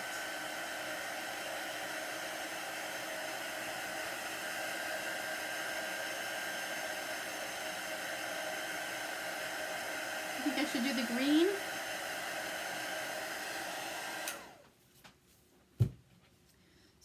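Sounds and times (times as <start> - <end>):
electric dryer blowing air: 0.0 - 14.6.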